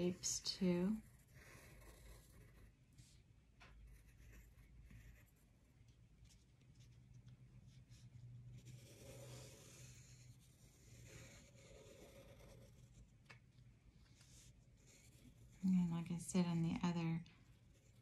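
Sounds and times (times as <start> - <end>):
pencil scratching on paper: 0.0 - 3.2, 3.8 - 13.2, 14.1 - 16.6, 17.5 - 18.0
faint steady hum: 0.0 - 18.0.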